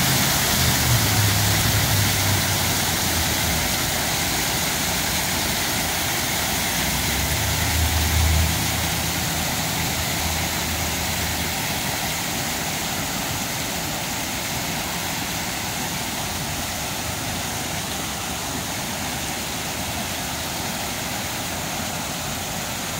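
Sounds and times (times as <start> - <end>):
water splashing down fountain wall: 0.0 - 22.9.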